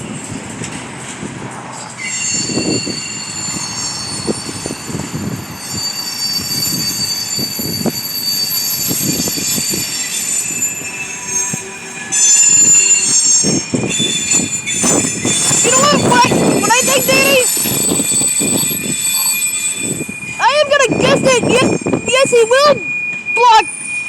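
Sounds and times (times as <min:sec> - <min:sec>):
train rumbling and knocking: 0:00.0 - 0:24.0
train wheels squealing: 0:01.8 - 0:24.0.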